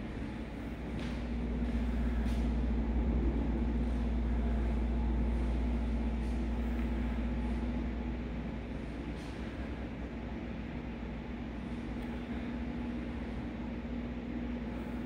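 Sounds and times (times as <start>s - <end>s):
constant droning hum: 0.0s - 15.0s
heavy machinery rumble: 0.0s - 15.0s.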